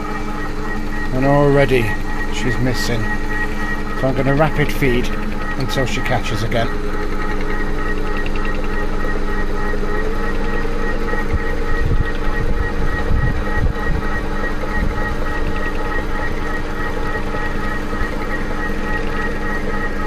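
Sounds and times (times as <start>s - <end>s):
milling machine whine: 0.0s - 20.0s.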